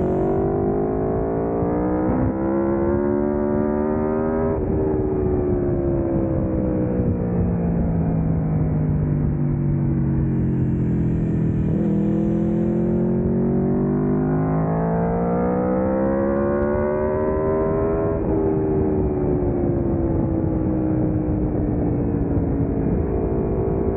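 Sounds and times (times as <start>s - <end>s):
motorcycle engine revving: 0.0s - 5.7s, 9.6s - 23.9s.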